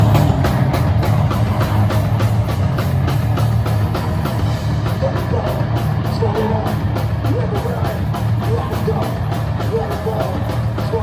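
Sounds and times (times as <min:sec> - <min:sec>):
drums steady beat: 0:00.0 - 0:11.0
rock band playing live: 0:00.0 - 0:11.0.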